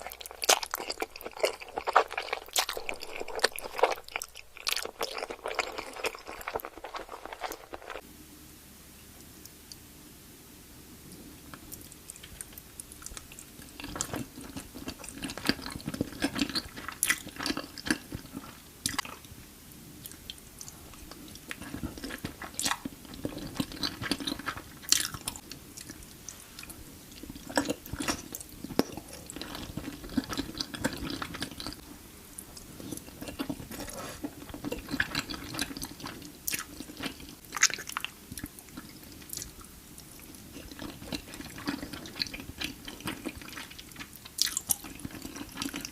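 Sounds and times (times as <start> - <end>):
chewing with wet clicks: 0.0 - 8.0, 11.5 - 19.3, 20.0 - 31.8, 32.5 - 45.9.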